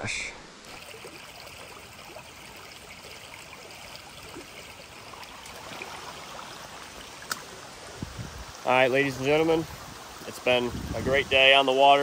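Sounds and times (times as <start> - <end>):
stream water running: 0.5 - 12.0.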